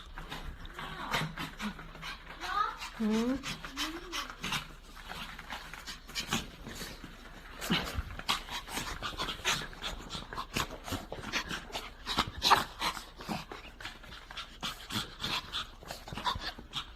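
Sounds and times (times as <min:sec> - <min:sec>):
dogs panting: 0:00.0 - 0:16.9.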